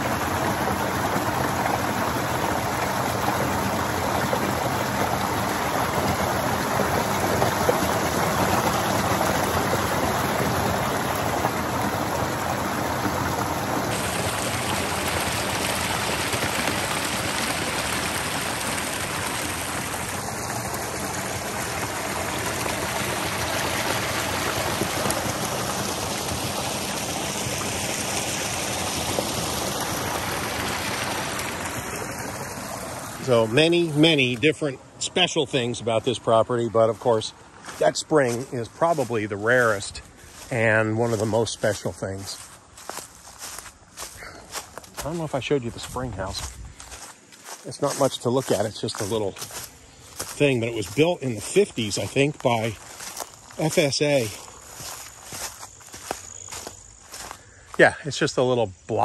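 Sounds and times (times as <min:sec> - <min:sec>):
water pouring into creek: 0:00.0 - 0:59.0.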